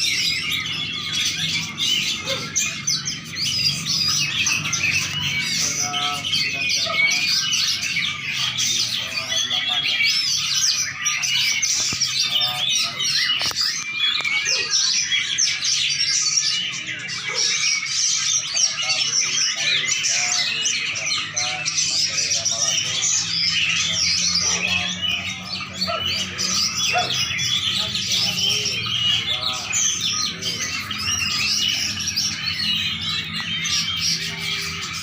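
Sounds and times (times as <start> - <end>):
songbird chirping and twittering: 0.0 - 35.0.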